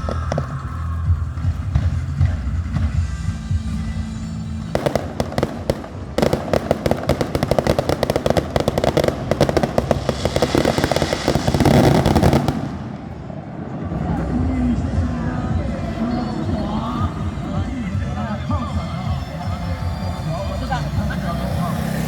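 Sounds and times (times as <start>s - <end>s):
fireworks crackling and banging: 0.0s - 22.0s
music: 0.0s - 22.0s.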